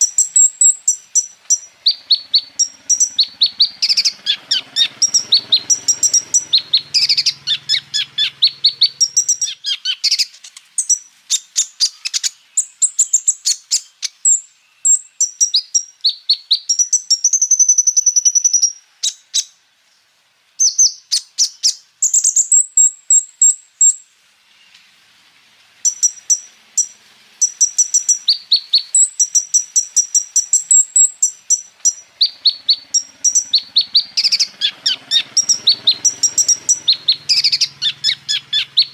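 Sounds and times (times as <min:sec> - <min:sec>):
sunbird singing trills: 0:00.0 - 0:24.9, 0:25.8 - 0:38.9.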